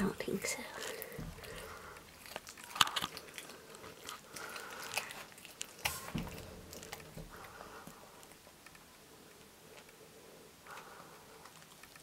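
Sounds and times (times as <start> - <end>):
raccoon chewing on bone: 0.1 - 12.0.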